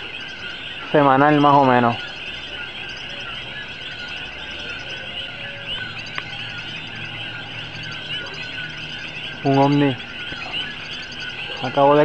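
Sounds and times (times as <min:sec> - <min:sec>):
chorus of frogs calling: 0:00.0 - 0:12.0.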